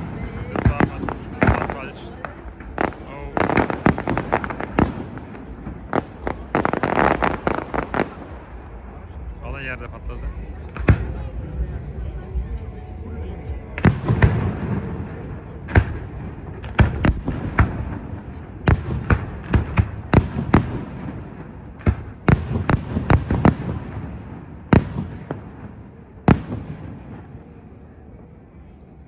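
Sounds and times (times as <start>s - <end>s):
fireworks bursting with echo: 0.0s - 28.3s.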